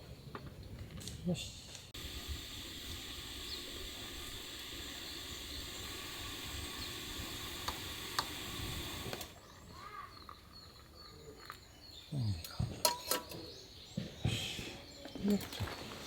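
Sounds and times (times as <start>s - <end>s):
birds chirping: 0.0s - 16.0s
outdoor background noise: 0.0s - 16.0s.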